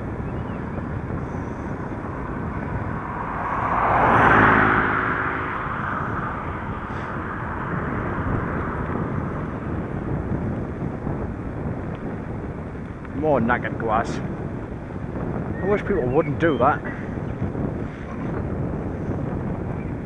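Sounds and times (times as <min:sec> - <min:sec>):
motor vehicle passing: 0:00.0 - 0:20.0
wind and road noise: 0:00.0 - 0:20.0.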